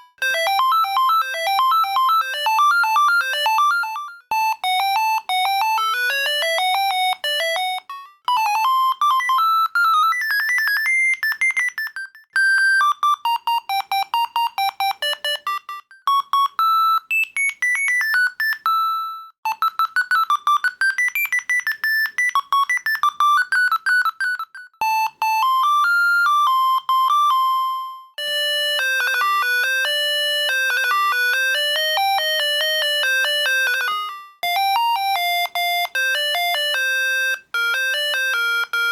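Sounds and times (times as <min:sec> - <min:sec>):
mobile phone ringtones: 0:00.0 - 0:38.9.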